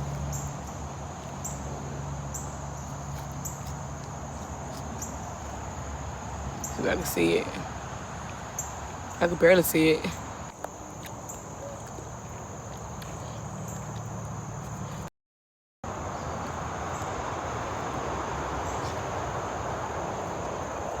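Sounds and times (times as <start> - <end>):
high-pitched insect chorus: 0.0 - 15.1, 15.9 - 21.0.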